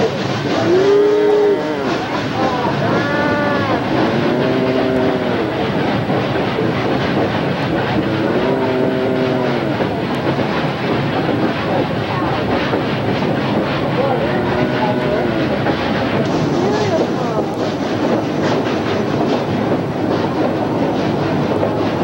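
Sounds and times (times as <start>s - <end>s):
steam train clattering: 0.0s - 22.0s.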